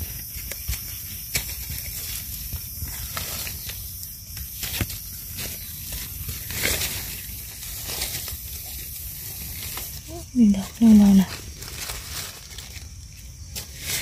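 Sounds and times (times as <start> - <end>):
dry leaves rustling and crackling: 0.0 - 14.0.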